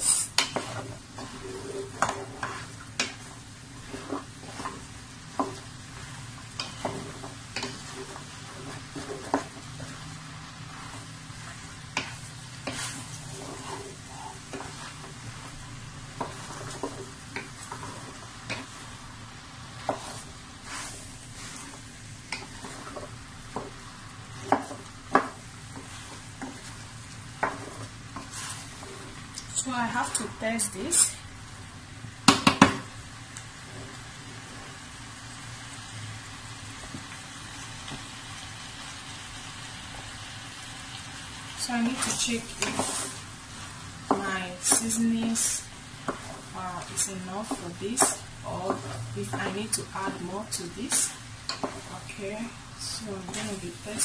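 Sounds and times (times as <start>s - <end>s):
wooden spatula scraping pot: 0.0s - 19.0s, 19.6s - 31.1s, 33.6s - 34.9s, 41.6s - 54.0s
food sizzling in oil: 0.0s - 54.0s.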